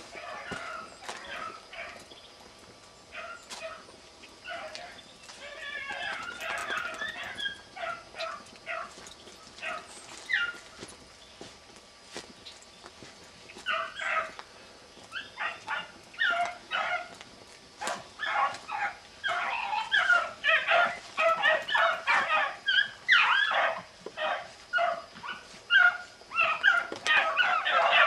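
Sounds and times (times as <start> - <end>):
hounds baying: 0.0 - 11.0, 13.5 - 14.4, 15.0 - 28.0.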